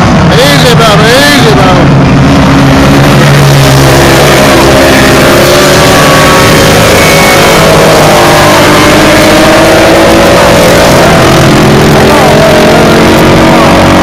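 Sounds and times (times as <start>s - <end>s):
racing kart engines: 0.0s - 14.0s.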